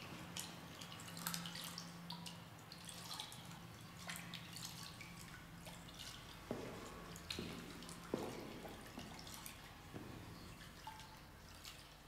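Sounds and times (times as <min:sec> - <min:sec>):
water dripping: 0:00.0 - 0:12.0.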